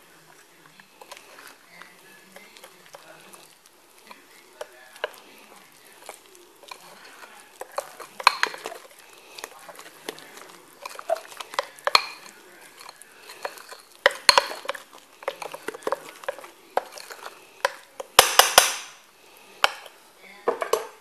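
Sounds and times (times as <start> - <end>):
utensil stirring batter in glass bowl: 0.0 - 21.0.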